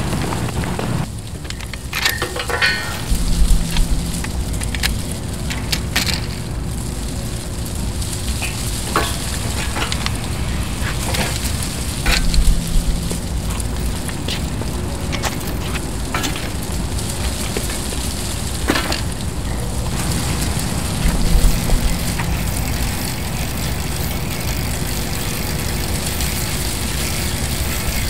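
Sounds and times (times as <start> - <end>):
bicycle clicks and rattles: 0.3 - 28.0
steady low rumble: 2.8 - 28.0.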